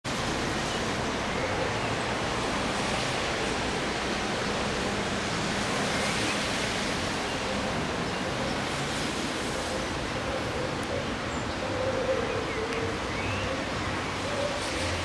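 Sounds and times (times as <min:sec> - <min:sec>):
rain falling on tree leaves: 0:00.1 - 0:11.6, 0:12.2 - 0:15.0.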